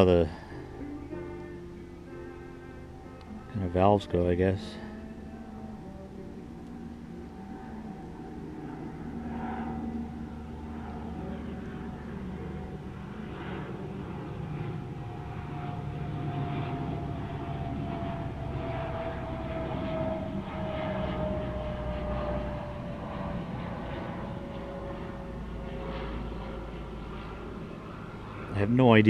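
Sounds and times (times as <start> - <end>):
propeller airplane flying past: 0.0 - 29.0.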